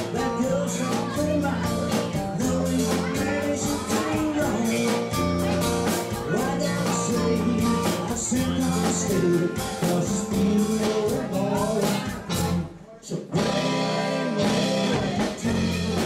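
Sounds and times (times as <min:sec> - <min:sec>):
held melody line: 0:00.0 - 0:12.7, 0:13.4 - 0:16.0
electric guitar: 0:00.0 - 0:12.8, 0:13.4 - 0:16.0
country-rock band playing: 0:00.0 - 0:16.0
drum kit: 0:00.0 - 0:16.0.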